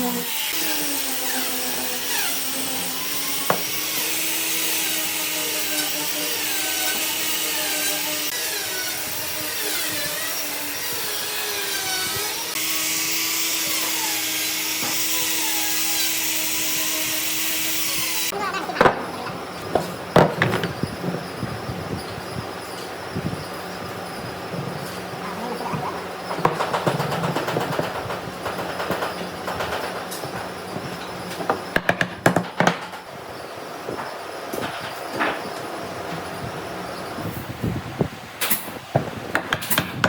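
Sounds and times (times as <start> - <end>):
power tool running: 0.0 - 32.8.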